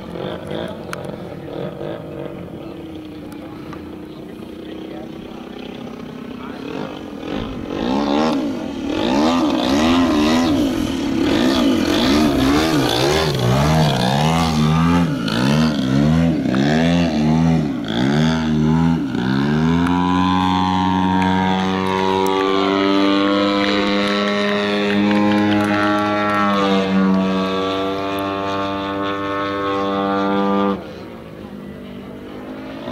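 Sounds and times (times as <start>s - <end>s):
model plane engine: 0.0s - 32.9s.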